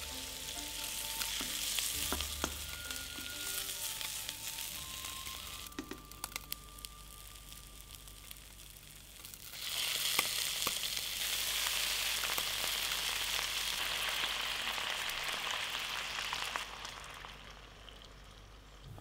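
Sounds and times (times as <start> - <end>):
tofu sizzling in hot pan: 0.0 - 18.8.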